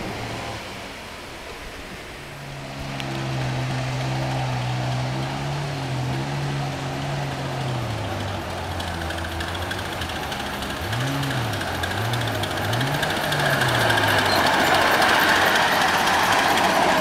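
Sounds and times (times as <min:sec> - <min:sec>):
miniature train humming: 0:00.0 - 0:17.0.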